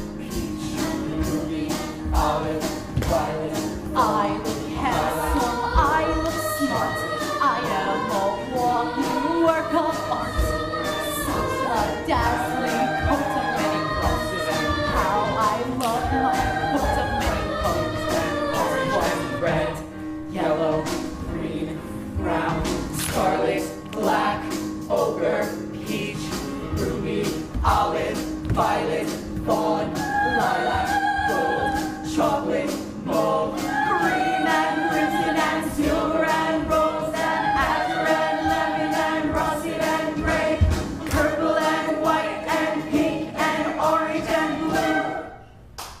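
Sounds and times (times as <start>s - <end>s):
chorus of mixed voices singing: 0.0s - 45.5s
musical accompaniment: 0.0s - 46.0s.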